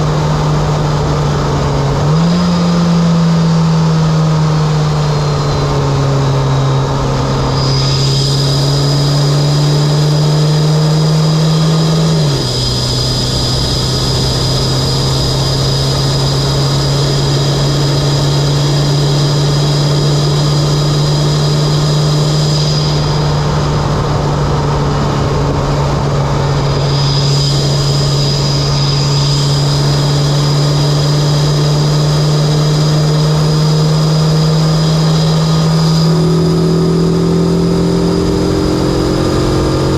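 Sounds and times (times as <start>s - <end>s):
car engine droning: 0.0s - 39.9s
thin high whine: 4.7s - 39.9s.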